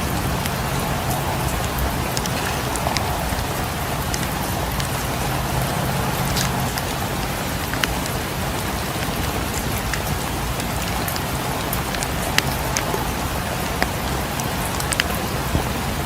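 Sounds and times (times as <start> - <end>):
rain falling: 0.0 - 16.0
wood fire crackling: 0.0 - 16.0.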